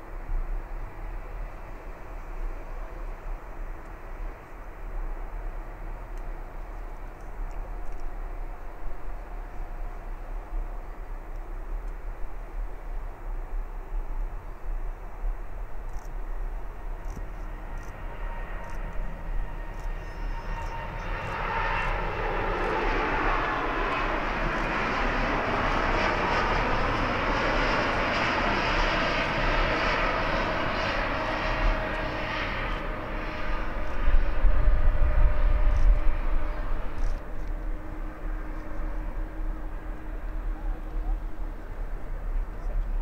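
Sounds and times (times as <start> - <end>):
jet engines at takeoff: 0.0 - 43.0.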